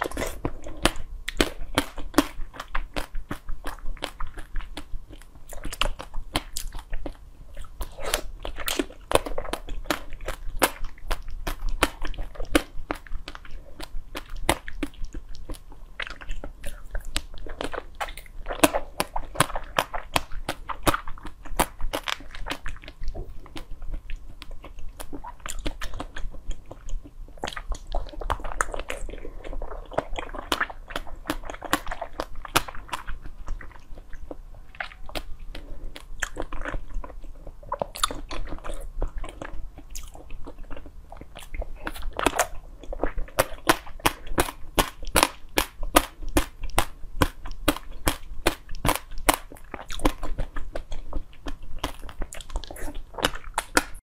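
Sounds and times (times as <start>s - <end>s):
biting and chewing jelly: 0.0s - 54.0s.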